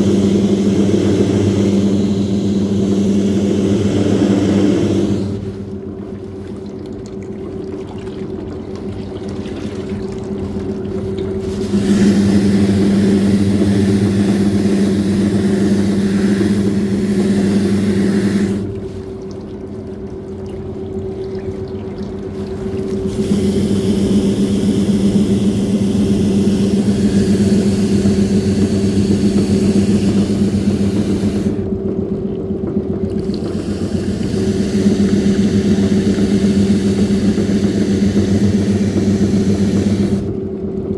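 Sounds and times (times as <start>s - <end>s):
motor hum: 0.0s - 40.9s
water churning and sloshing: 0.0s - 40.9s.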